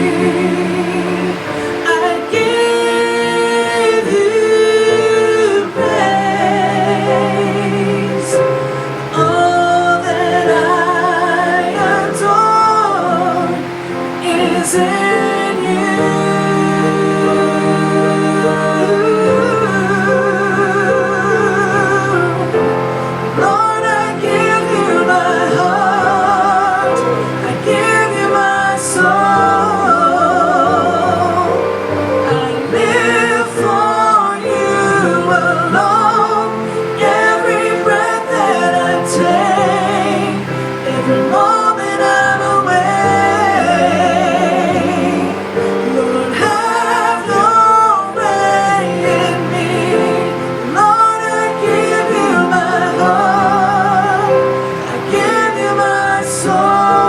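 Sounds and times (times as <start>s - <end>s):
gospel singing with vibrato: 0.0s - 57.0s
sustained accompaniment chords: 0.0s - 57.0s.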